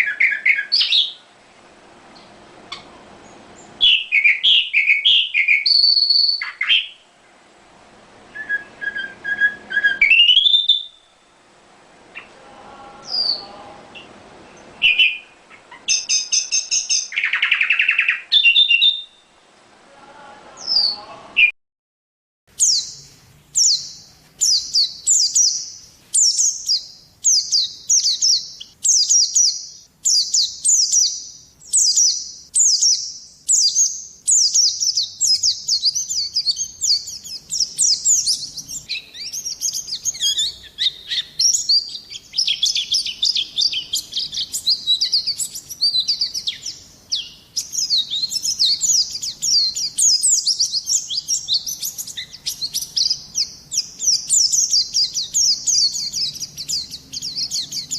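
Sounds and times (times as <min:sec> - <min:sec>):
songbirds chirping and trilling: 0:00.0 - 0:21.5, 0:22.5 - 0:57.9.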